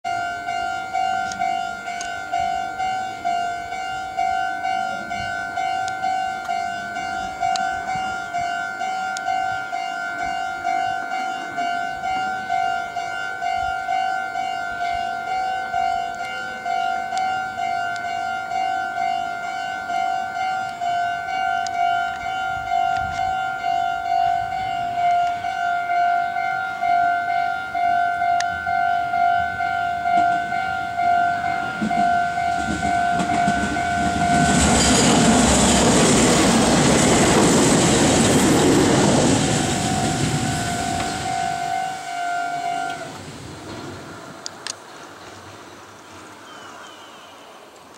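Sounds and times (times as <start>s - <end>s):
level-crossing bell ringing: 0.1s - 37.2s, 39.1s - 42.9s
electric train passing: 0.1s - 47.9s.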